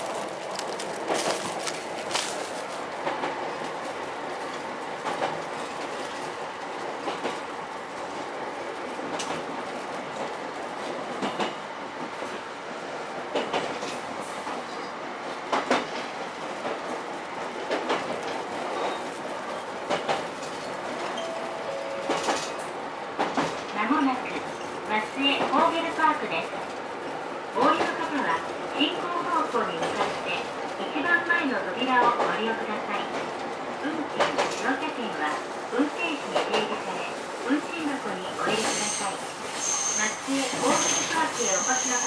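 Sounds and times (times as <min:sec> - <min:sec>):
train rolling noise: 0:00.0 - 0:42.0.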